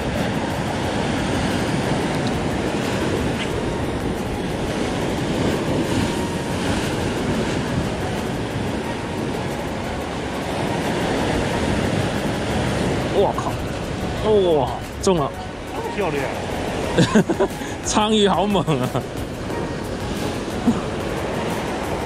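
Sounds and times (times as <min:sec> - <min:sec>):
ocean surf breaking on rocks: 0:00.0 - 0:22.0.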